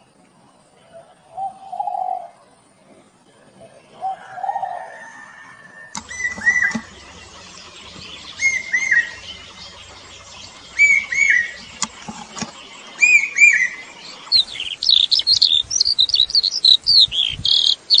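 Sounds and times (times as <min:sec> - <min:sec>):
songbirds singing: 0:00.5 - 0:18.0.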